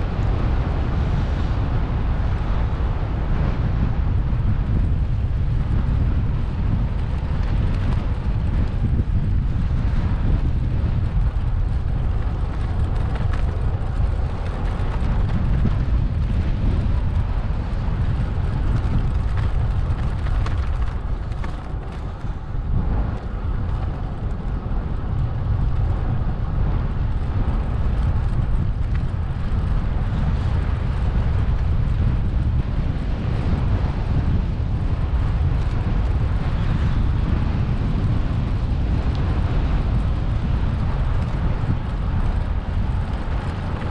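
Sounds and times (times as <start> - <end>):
road noise: 0.0 - 43.9
wind buffeting microphone: 0.0 - 43.9.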